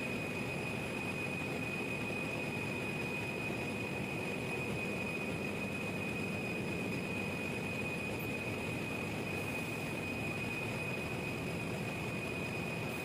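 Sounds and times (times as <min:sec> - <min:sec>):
high machinery whine: 0:00.0 - 0:13.0.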